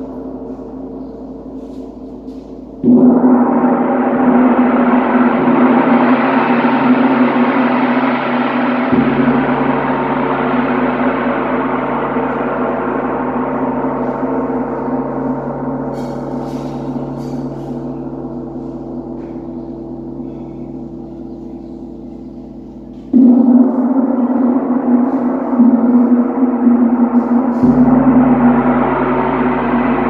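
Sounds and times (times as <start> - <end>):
gong ringing: 0.0 - 30.0.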